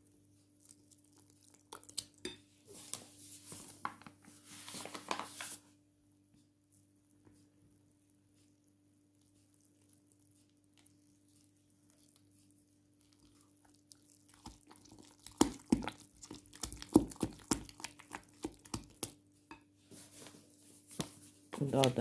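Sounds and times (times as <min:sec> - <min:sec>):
dough mixed by hand: 0:00.0 - 0:05.8, 0:06.6 - 0:22.0.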